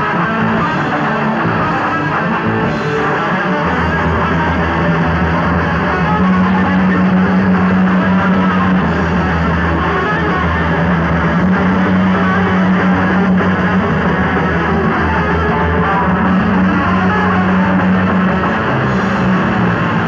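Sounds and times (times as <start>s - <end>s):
metal band playing live: 0.0s - 20.0s.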